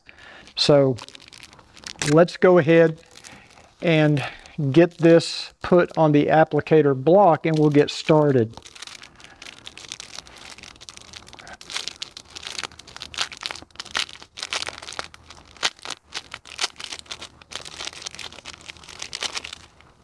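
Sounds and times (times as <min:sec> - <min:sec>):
plastic wrapper crinkling and tearing: 0:00.2 - 0:20.0.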